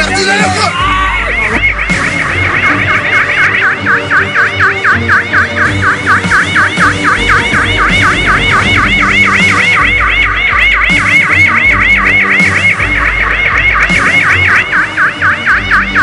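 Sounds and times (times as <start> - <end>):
background music with bass: 0.0 - 16.0
police siren yelping: 0.0 - 16.0.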